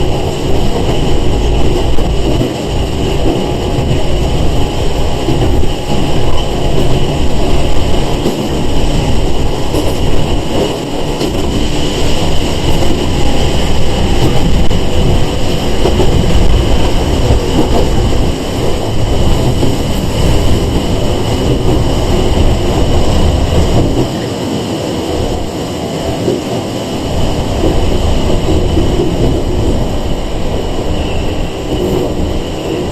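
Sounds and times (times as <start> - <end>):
train interior rumble: 0.0 - 32.9.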